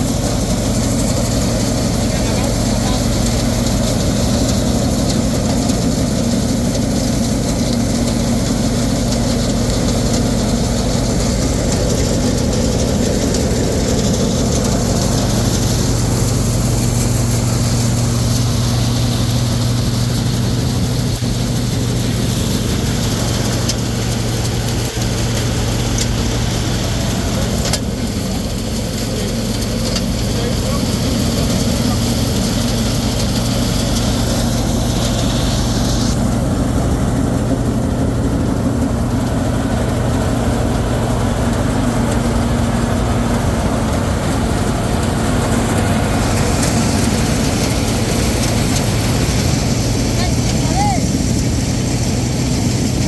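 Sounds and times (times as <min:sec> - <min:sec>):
combine harvester engine running: 0:00.0 - 0:53.0.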